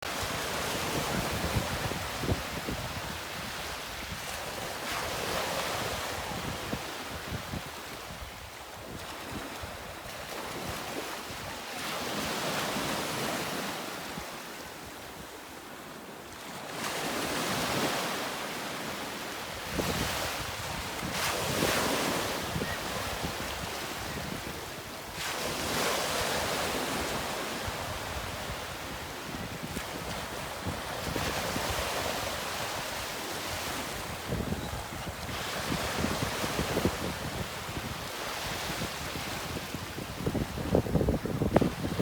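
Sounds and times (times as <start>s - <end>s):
wind: 0.0s - 42.0s.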